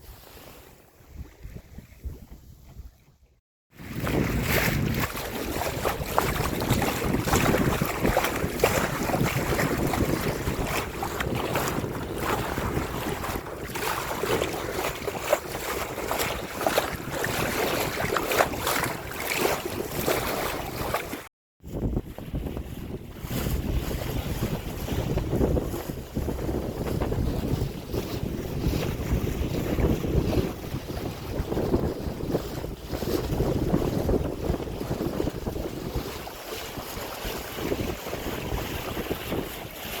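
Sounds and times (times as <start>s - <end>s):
water splashing along hull: 0.0s - 40.0s
wind gusting on microphone: 0.0s - 40.0s.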